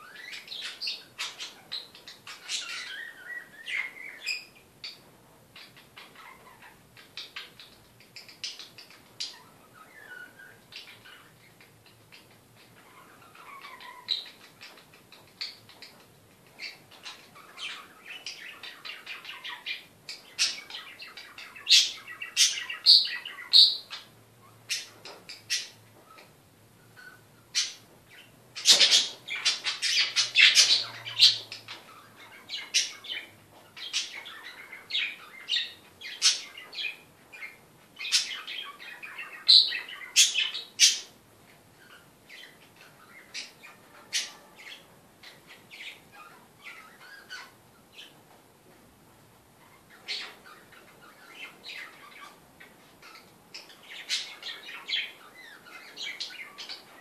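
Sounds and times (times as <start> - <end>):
parrots chirping: 0.0 - 41.2, 41.8 - 48.1, 49.6 - 57.0.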